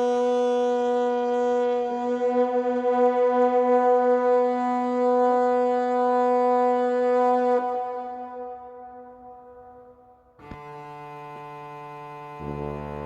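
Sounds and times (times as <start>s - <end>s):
horn long steady note: 0.0s - 9.8s, 10.5s - 13.0s.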